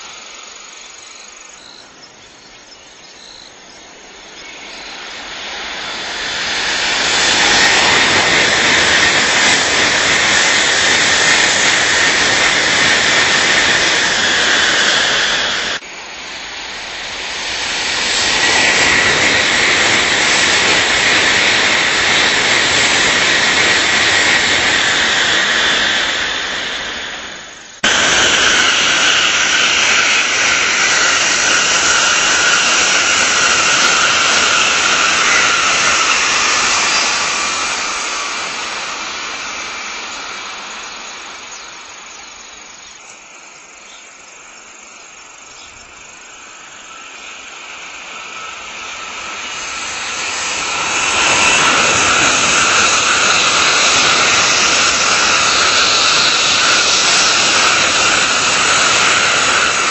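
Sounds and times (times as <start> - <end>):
high-speed train rushing past: 0.0 - 59.9.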